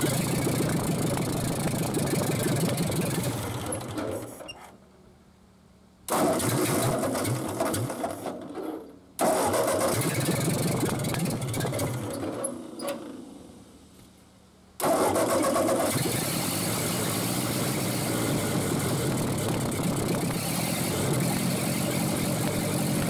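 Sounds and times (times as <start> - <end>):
tractor engine starting and dying: 0.0 - 4.7, 6.1 - 13.5, 14.8 - 23.0.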